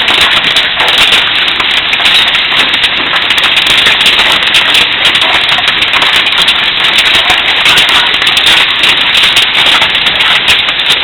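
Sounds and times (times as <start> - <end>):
hail pelting down: 0.0 - 11.0.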